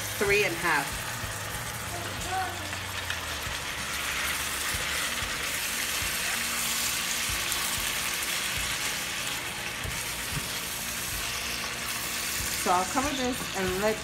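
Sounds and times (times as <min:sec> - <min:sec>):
tomatoes sizzling in oil: 0:00.0 - 0:14.0.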